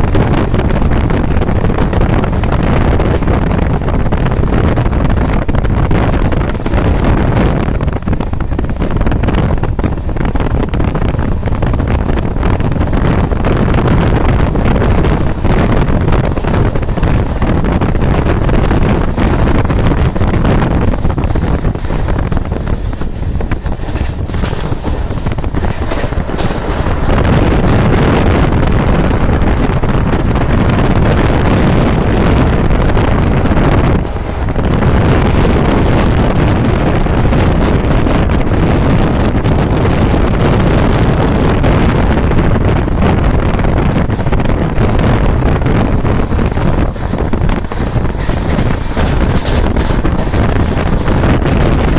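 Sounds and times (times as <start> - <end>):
train running at speed: 0.0 - 51.9
wind rushing over microphone: 0.0 - 51.9.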